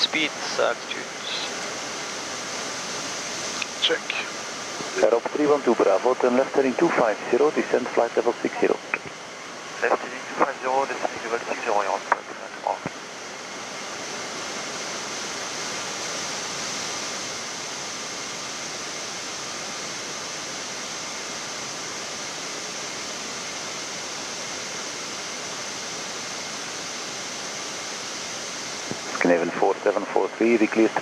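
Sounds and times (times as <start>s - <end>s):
faint steady tones: 0.0s - 31.0s.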